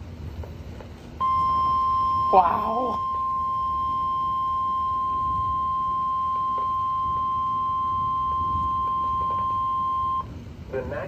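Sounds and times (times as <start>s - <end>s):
steady high alert tone: 1.2s - 10.2s.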